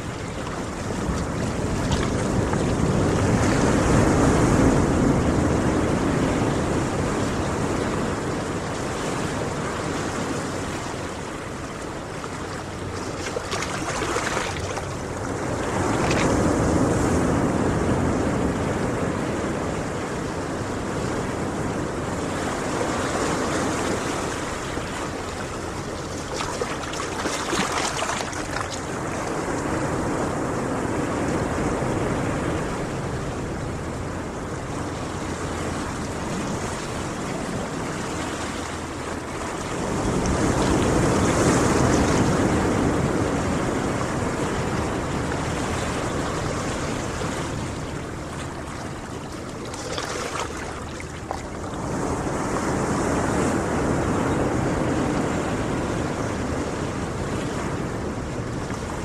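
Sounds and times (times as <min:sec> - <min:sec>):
surf breaking on a beach: 0:00.0 - 0:59.0.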